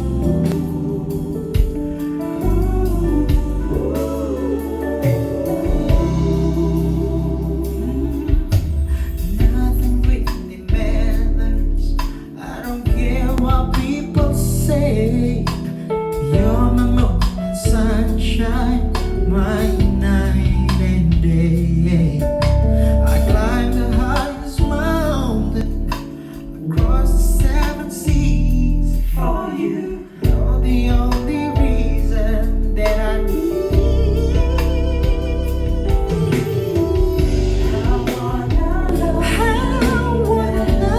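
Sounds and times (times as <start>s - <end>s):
heavy bass line: 0.0s - 12.2s, 12.9s - 15.6s, 16.2s - 26.0s, 26.8s - 29.4s, 30.3s - 40.9s
person singing: 0.0s - 40.9s
pop song over speaker: 0.0s - 40.9s.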